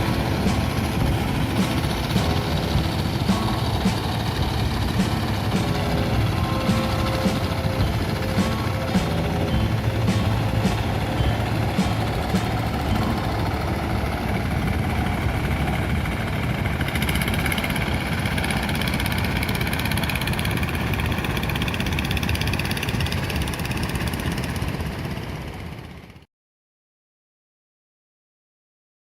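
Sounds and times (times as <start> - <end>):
wind noise: 0.0 - 25.6
ocean surf roaring: 0.0 - 26.0.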